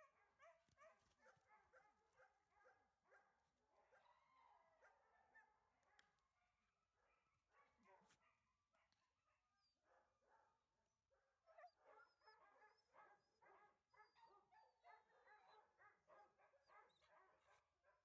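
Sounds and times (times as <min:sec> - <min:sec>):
dog barking: 0:00.0 - 0:04.2, 0:04.8 - 0:06.1, 0:07.0 - 0:10.6, 0:11.4 - 0:18.0.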